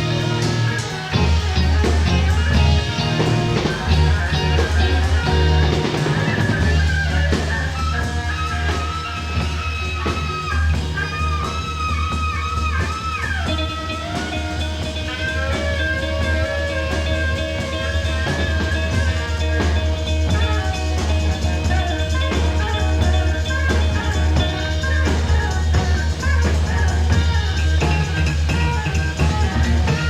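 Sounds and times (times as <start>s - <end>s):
lead guitar bending notes: 0.0s - 30.0s
rock band playing: 0.0s - 30.0s.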